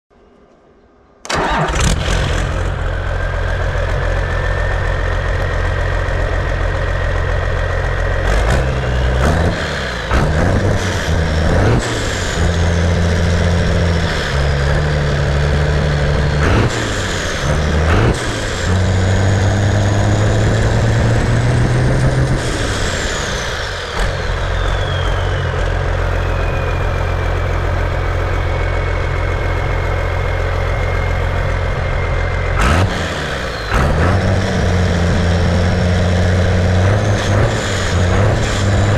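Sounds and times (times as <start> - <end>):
diesel engine starting and idling: 1.2 - 38.9
turbocharger whine: 1.2 - 38.9.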